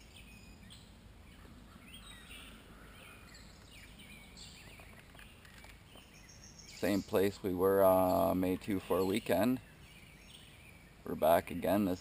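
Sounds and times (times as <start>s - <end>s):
low outdoor hum: 0.0s - 12.0s.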